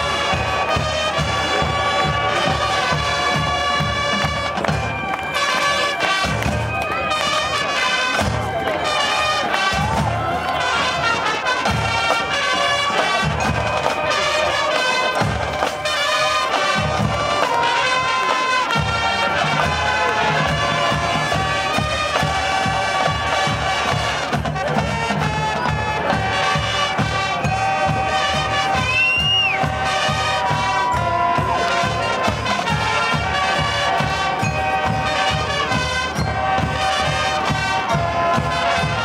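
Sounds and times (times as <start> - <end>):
marching band playing: 0.0 - 39.0.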